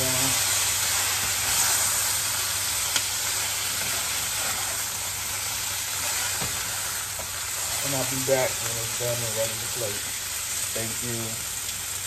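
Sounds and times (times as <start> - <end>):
potatoes sizzling in a pot: 0.0 - 12.0.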